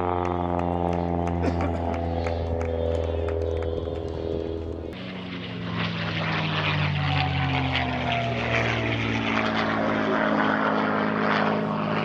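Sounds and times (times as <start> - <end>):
airplane piston engine: 0.0 - 12.0.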